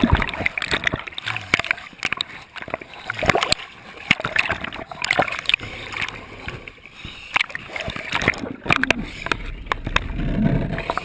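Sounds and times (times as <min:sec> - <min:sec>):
sea water splashing: 0:00.0 - 0:11.0.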